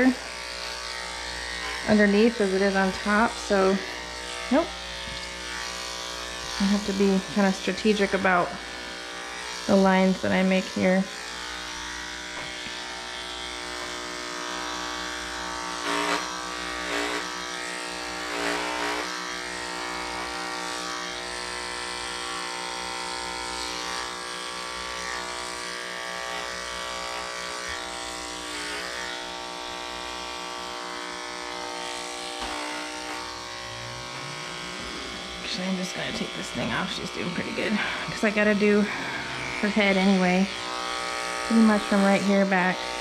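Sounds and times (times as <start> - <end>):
electric clipper humming: 0.0 - 43.0.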